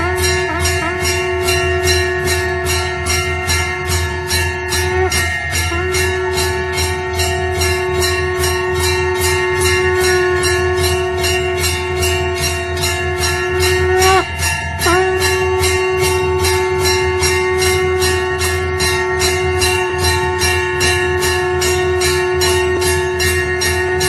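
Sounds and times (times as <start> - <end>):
conch shell blown: 0.0 - 24.0
temple bell ringing: 0.0 - 24.0.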